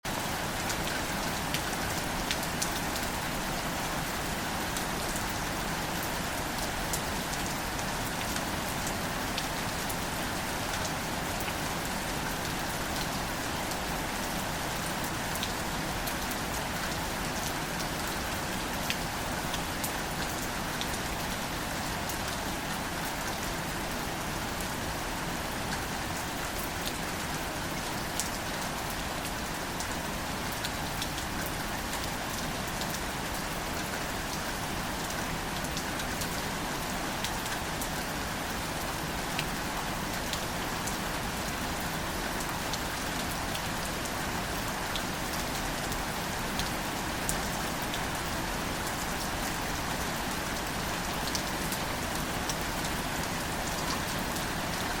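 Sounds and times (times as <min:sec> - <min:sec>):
light rain on leaves: 0:00.0 - 0:55.0.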